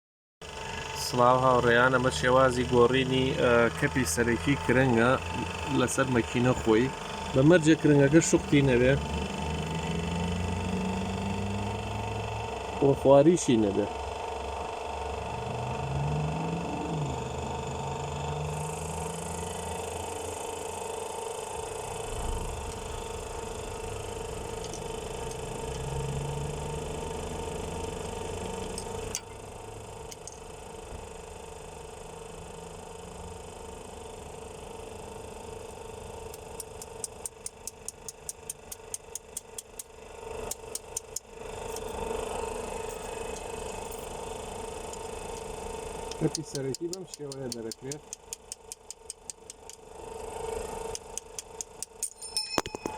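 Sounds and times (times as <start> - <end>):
machine humming: 0.4 - 38.7, 40.0 - 48.2.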